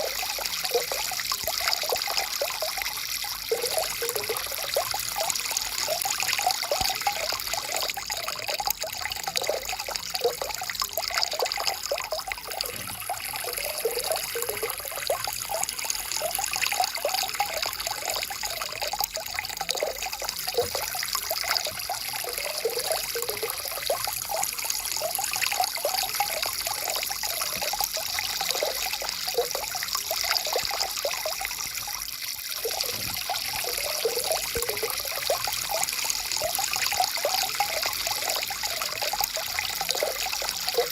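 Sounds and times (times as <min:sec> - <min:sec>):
stream trickling over rocks: 0:00.0 - 0:40.9.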